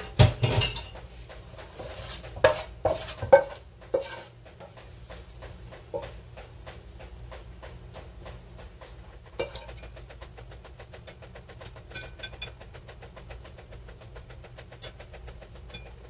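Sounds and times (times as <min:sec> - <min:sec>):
low mechanical hum with ticking: 0:00.0 - 0:16.0
spatula knocking and scraping wok: 0:00.0 - 0:16.0.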